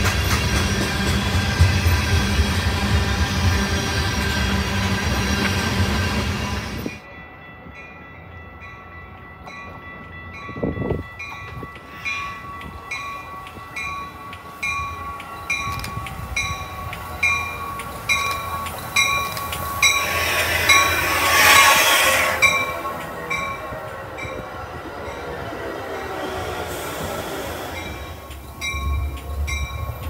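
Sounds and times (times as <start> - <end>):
railroad crossing bell ringing: 0.0 - 30.0
train noise: 0.0 - 30.0.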